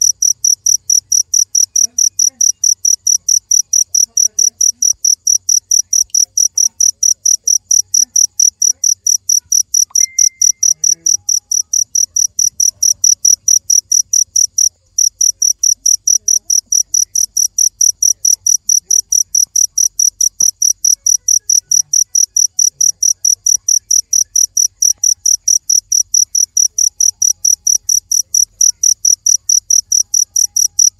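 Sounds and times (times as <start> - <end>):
cricket chirping: 0.0 - 30.9.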